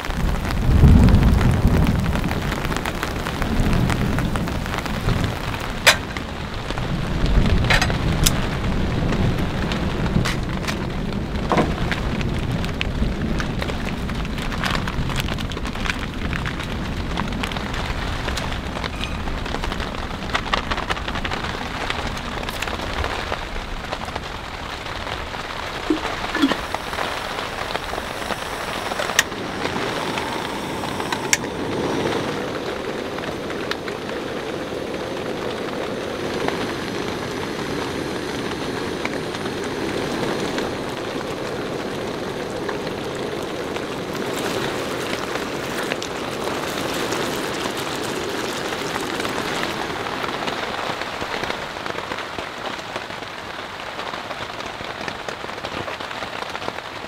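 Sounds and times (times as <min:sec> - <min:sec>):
thunder rumbling: 0:00.0 - 0:51.8
heavy rain falling: 0:00.0 - 0:57.0.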